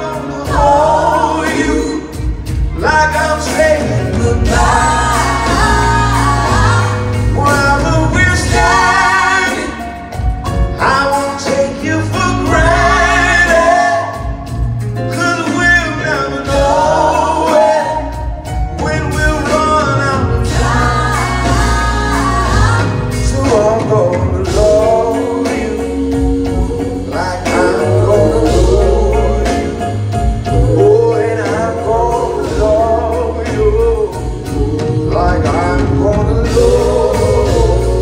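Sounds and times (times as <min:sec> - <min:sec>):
man singing: 0:00.0 - 0:05.6, 0:06.7 - 0:10.0, 0:10.7 - 0:21.0, 0:22.7 - 0:38.0
band with electric guitar and bass: 0:00.0 - 0:38.0.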